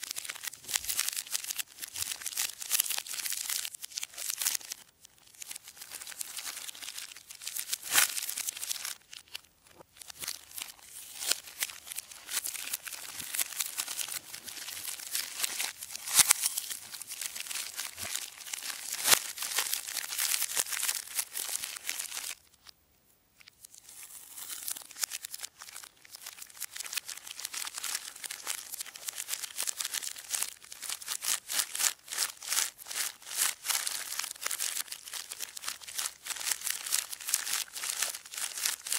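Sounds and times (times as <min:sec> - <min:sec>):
plastic wrappers crinkling: 0:00.0 - 0:22.7, 0:23.7 - 0:38.9.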